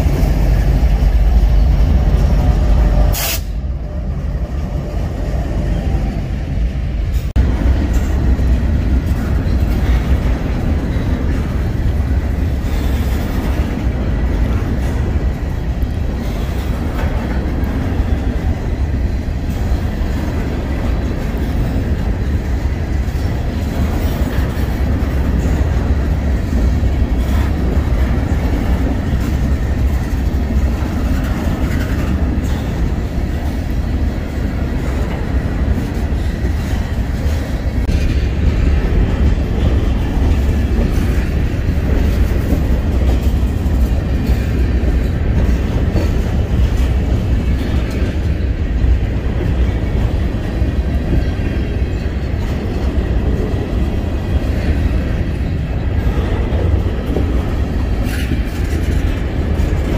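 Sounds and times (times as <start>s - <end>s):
freight train rolling past: 0.0s - 59.9s
wheels clacking on rails: 0.0s - 59.9s.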